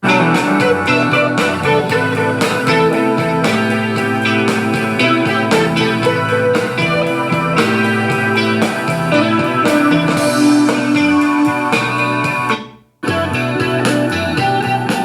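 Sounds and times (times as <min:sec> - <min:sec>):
guitar music with drums: 0:00.0 - 0:15.0.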